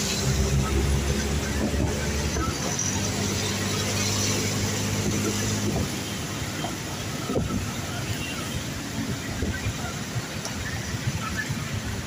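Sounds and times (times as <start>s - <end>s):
engine hum: 0.0s - 12.0s
heavy rain: 0.0s - 12.0s
wet road noise: 0.0s - 12.0s.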